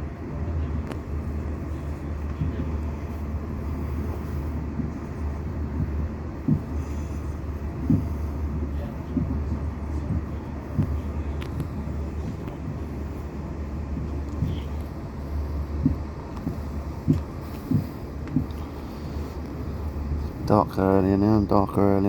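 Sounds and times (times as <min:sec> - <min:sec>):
soft low thumps: 0:00.0 - 0:20.9
train low rumble: 0:00.0 - 0:22.0.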